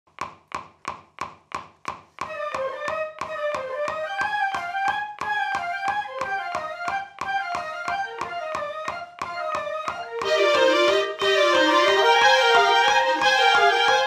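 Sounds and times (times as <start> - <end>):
flutes and clarinets playing melody: 2.2 - 14.0.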